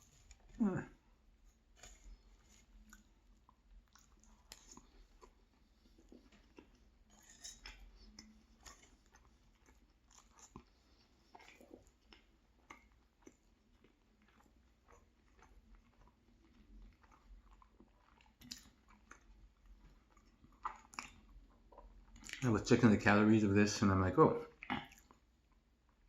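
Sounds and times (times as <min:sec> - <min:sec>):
person chewing food: 0:00.0 - 0:22.4, 0:24.5 - 0:26.0.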